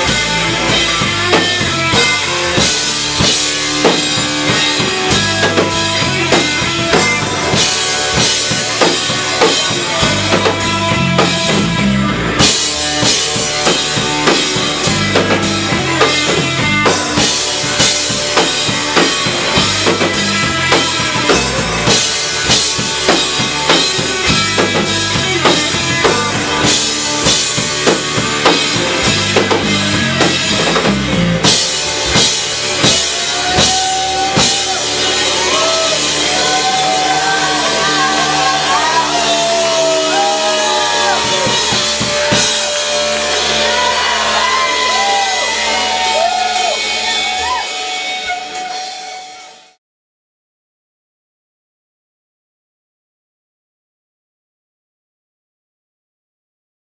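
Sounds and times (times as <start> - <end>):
live band playing: 0.0 - 49.8.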